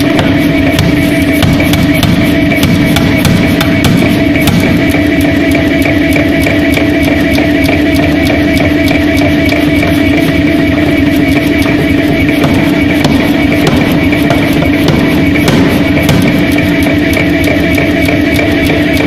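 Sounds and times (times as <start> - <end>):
air hammer striking hot steel: 0.0 - 19.0
machine drone: 0.0 - 19.0.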